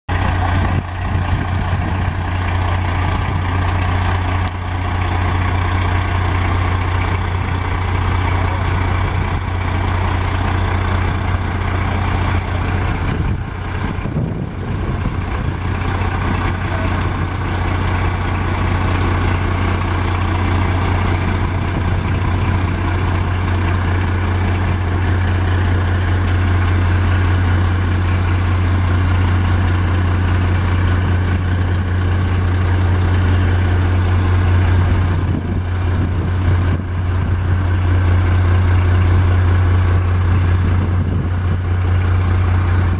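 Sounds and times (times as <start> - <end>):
truck engine idling: 0.1 - 42.9.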